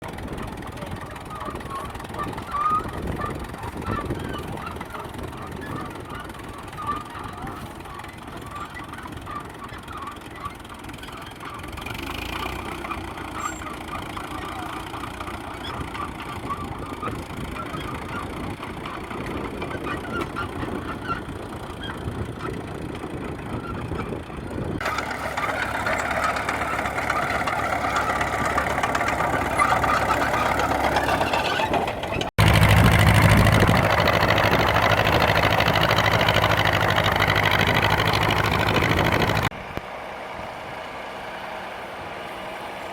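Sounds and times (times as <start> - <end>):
tractor engines running: 0.0 - 42.9.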